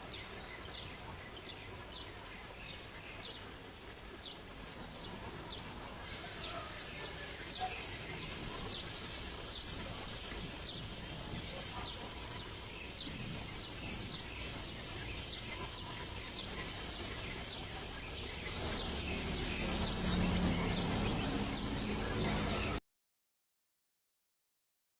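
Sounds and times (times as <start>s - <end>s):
bird chirping: 0.0s - 22.8s.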